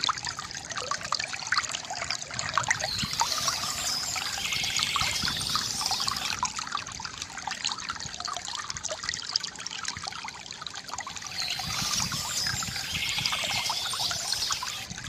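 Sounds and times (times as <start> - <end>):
water trickling from fountain: 0.0 - 15.0.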